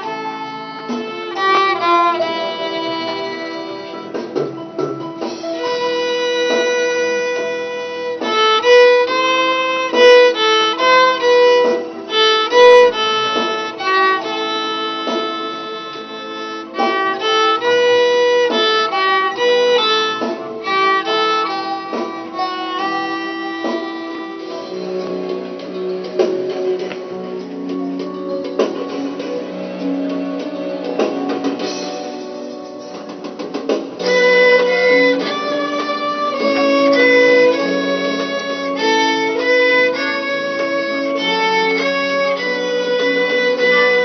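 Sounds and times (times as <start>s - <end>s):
violin melody: 0.0s - 33.3s, 33.9s - 44.0s.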